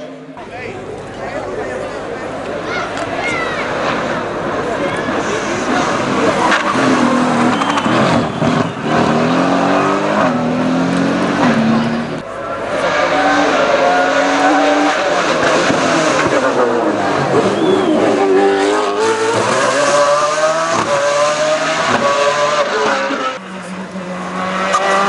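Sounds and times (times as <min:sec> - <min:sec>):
race car engine revving: 0:03.7 - 0:25.0.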